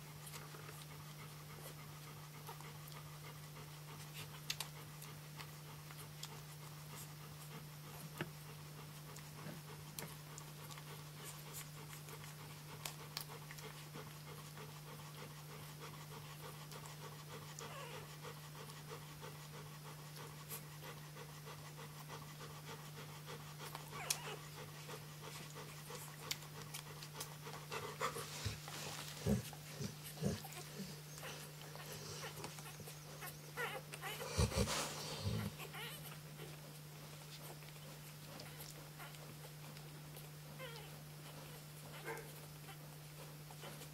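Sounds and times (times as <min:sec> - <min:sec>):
dog panting: 0:00.0 - 0:43.9
steady low hum: 0:00.0 - 0:43.9.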